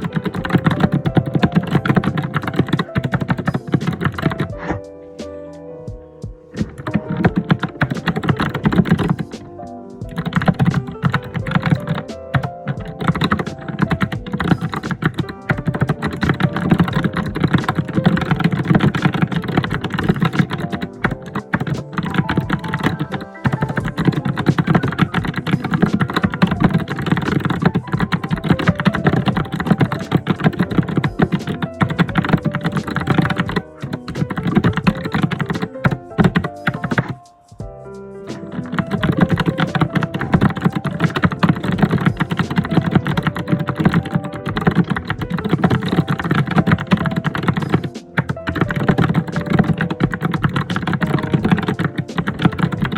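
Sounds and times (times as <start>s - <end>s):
typing on a computer keyboard: 0.0s - 4.5s, 6.6s - 9.3s, 10.0s - 37.2s, 38.3s - 52.9s.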